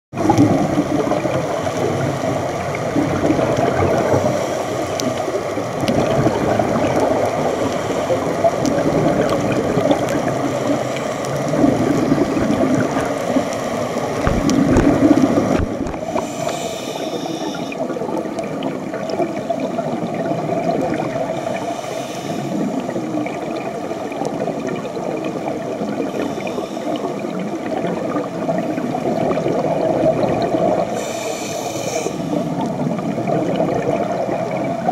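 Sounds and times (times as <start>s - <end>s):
underwater gurgling bubbling water: 0.1s - 34.9s.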